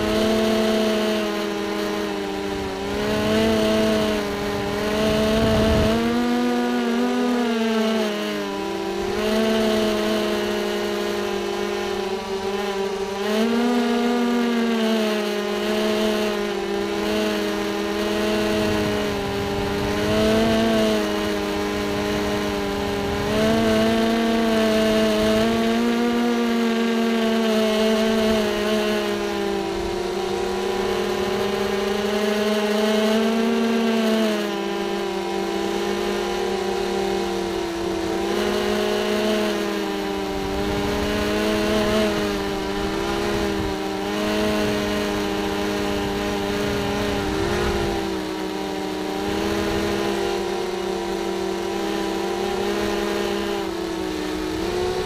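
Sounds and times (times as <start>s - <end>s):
drone motors and propellers whining: 0.0s - 55.0s.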